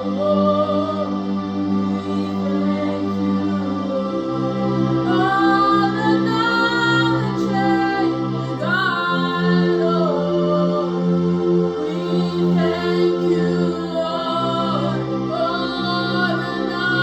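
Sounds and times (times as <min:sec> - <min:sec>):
woman singing wordless notes: 0:00.0 - 0:04.4, 0:05.0 - 0:11.0, 0:11.8 - 0:17.0.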